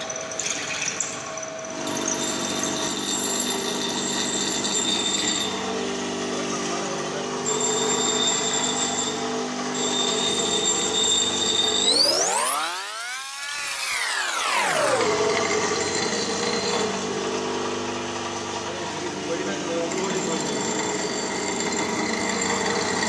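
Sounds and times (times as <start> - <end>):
angle grinder grinding metal: 0.0 - 23.0
drill press whining: 0.0 - 23.0.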